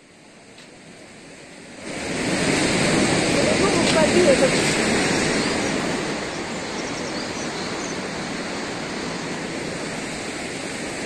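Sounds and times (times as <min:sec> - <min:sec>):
fast river rushing: 0:00.0 - 0:11.0.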